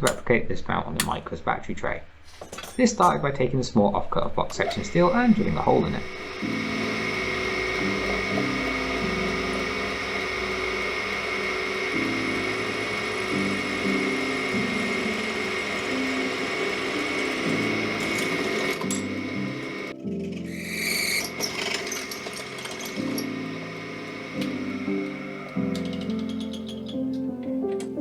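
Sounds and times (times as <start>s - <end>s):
power drill boring through steel: 4.5s - 27.1s.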